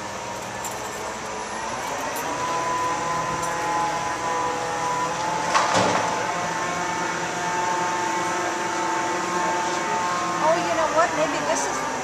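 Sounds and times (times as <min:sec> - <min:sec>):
heavy machinery engine whining: 0:00.0 - 0:12.0.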